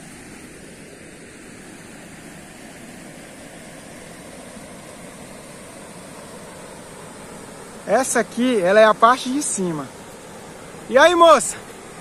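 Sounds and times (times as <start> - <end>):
waterfall and river rapids rushing: 0.0 - 12.0.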